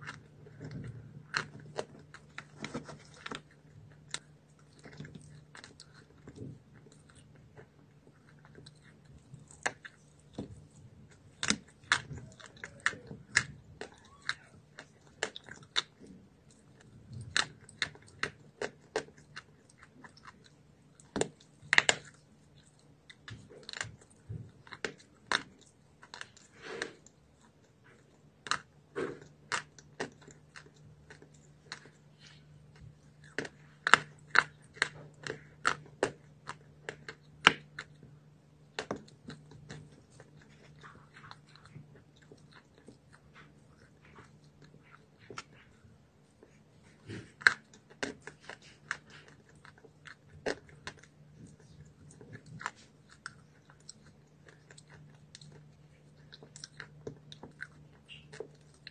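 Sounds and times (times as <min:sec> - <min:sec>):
chalk crunching while chewing: 0:00.0 - 0:58.9.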